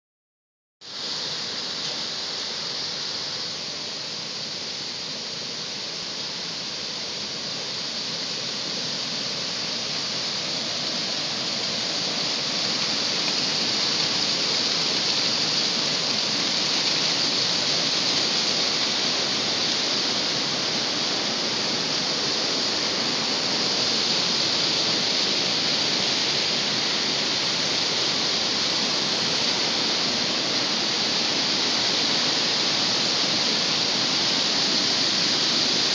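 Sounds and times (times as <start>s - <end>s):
river water rushing: 0.9s - 35.9s.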